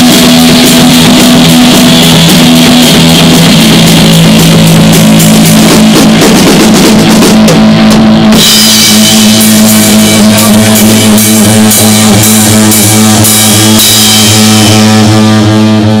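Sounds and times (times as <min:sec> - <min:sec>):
drum kit playing: 0:00.0 - 0:16.0
electric guitar: 0:00.0 - 0:16.0.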